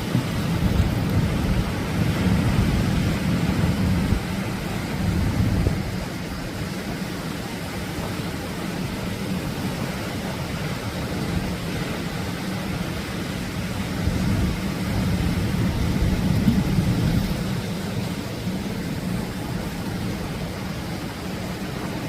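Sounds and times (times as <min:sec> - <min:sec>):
surf breaking on a beach: 0:00.0 - 0:22.0.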